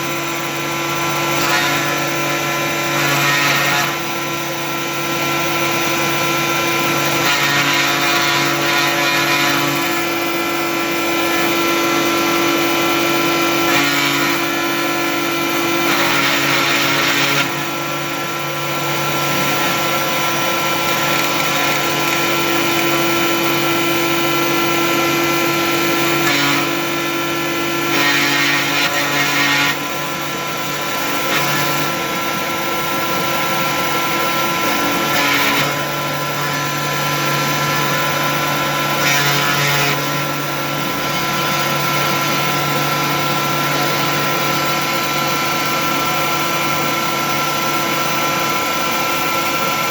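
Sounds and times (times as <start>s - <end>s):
motor whine: 0.0s - 49.9s.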